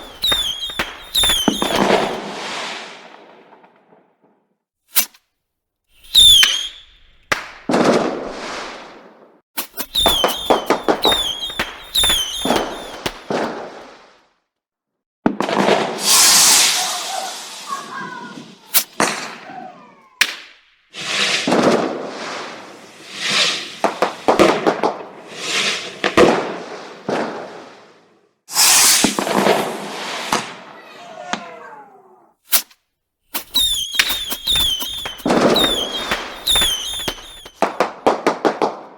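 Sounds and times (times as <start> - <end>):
fireworks whistling: 0.0 - 3.9, 4.9 - 5.2, 5.9 - 14.3, 15.4 - 38.8
fireworks crackling: 0.0 - 4.0, 4.9 - 5.2, 6.0 - 14.3, 15.3 - 38.9
fireworks bangs: 0.0 - 4.3, 6.0 - 14.3, 15.2 - 32.7, 33.3 - 38.9.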